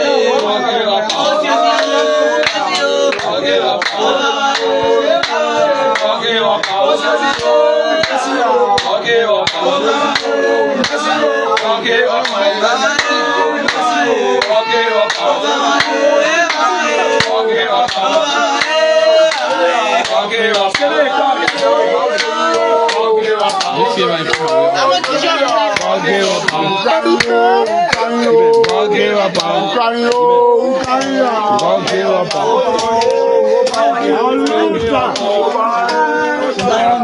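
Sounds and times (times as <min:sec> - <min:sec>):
crowd singing: 0:00.0 - 0:37.0.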